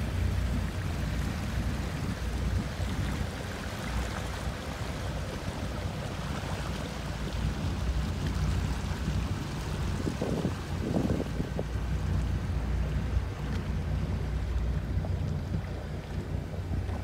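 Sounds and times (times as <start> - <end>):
motorboat engine rumble: 0.0 - 17.0
water splashing along hull: 0.0 - 17.0.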